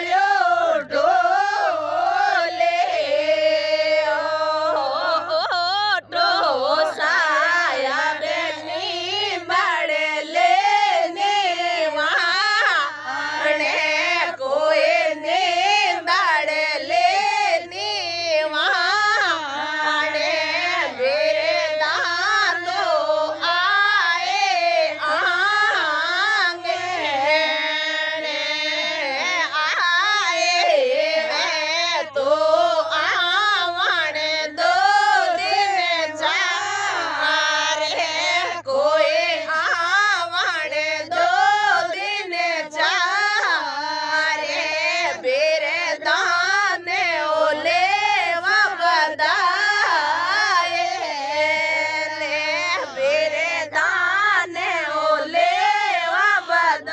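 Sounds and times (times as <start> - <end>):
woman singing folk song: 0.0 - 56.9.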